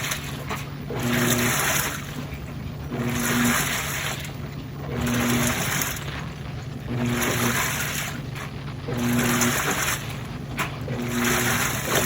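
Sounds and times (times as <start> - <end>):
low motor hum: 0.0 - 12.0
washing machine water sloshing: 0.0 - 12.0.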